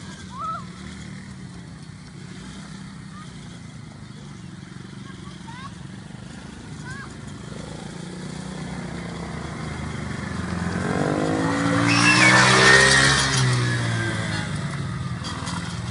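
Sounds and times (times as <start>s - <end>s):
small engine passing by: 0.0s - 15.9s.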